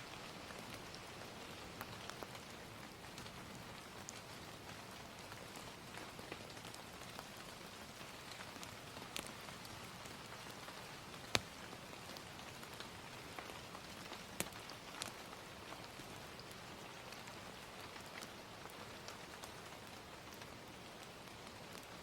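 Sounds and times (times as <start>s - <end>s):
gentle rain: 0.0s - 22.0s
wood fire crackles: 0.1s - 22.0s.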